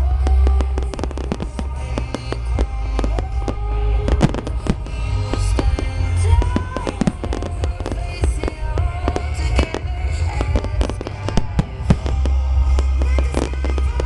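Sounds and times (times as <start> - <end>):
fireworks bangs and crackles: 0.0 - 14.0
music playing: 0.0 - 14.0.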